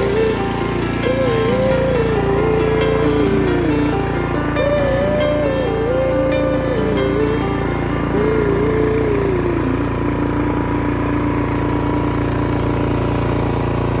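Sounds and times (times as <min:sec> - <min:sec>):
wavering melodic tone: 0:00.0 - 0:12.5
small engine running: 0:00.0 - 0:14.0.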